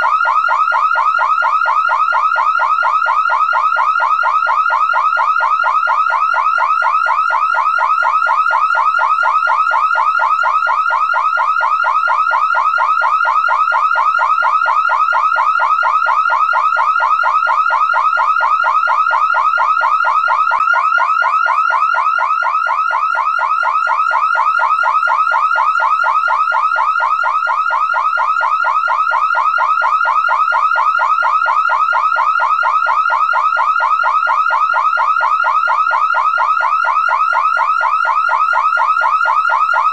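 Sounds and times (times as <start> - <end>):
car alarm siren: 0.0 - 39.9.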